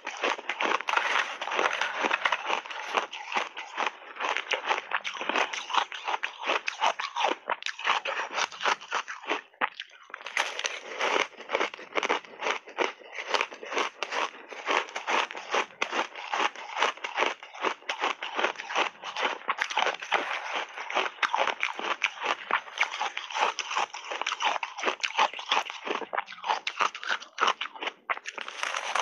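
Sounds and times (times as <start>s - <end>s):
chewing crunchy ice: 0.0s - 29.0s.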